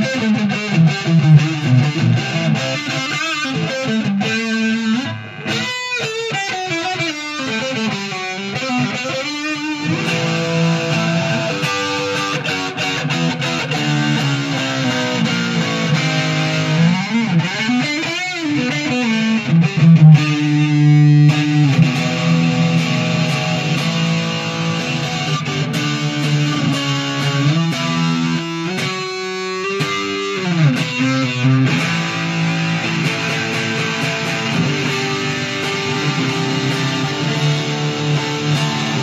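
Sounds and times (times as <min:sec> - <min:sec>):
distorted electric guitar lead: 0:00.0 - 0:39.0.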